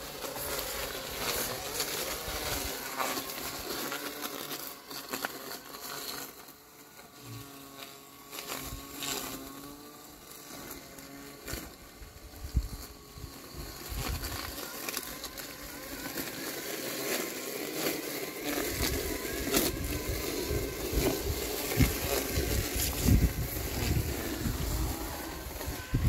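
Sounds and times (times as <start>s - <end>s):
robotic lawn mower humming: 0.0s - 26.0s.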